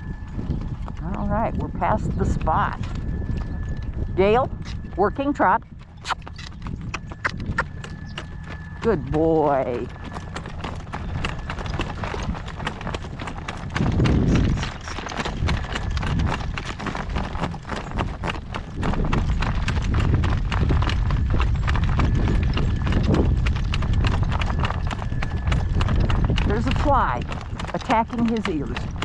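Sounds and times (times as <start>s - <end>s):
horse hooves trotting: 0.0s - 29.0s
wind on microphone: 0.0s - 29.0s.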